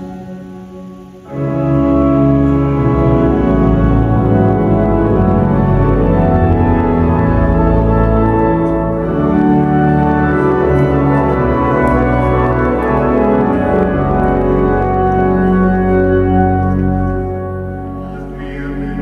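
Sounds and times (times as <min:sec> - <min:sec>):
church organ playing chords: 0:00.0 - 0:19.0.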